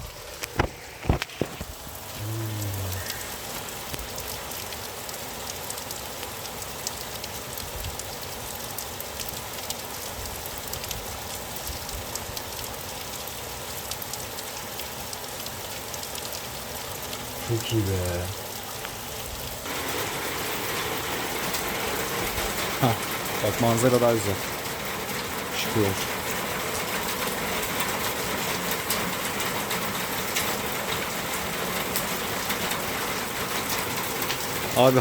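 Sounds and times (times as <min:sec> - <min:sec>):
rain ticking on hard surface: 0:00.0 - 0:35.0.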